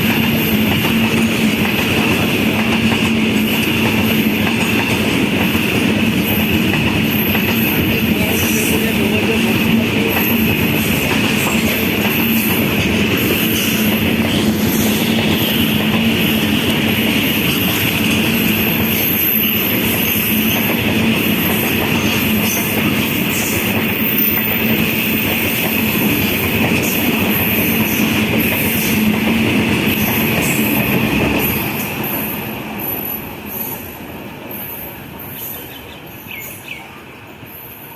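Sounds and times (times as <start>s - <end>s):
train clatter: 0.0s - 33.8s
train wheels rumbling on rails: 0.0s - 36.8s.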